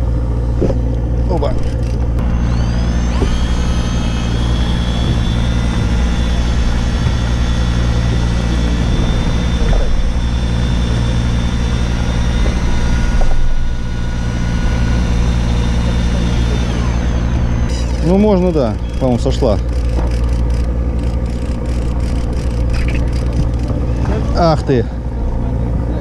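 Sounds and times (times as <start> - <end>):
electric fishing reel motor whine: 0.0 - 25.4
boat engine hum: 0.0 - 26.0.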